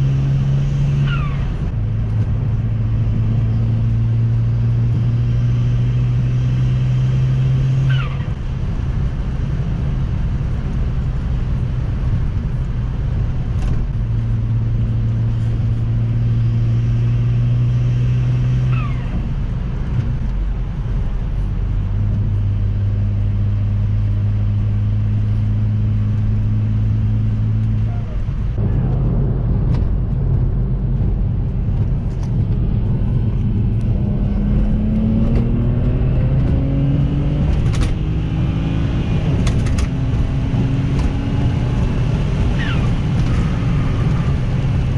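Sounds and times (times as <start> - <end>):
car engine humming: 0.0 - 44.9.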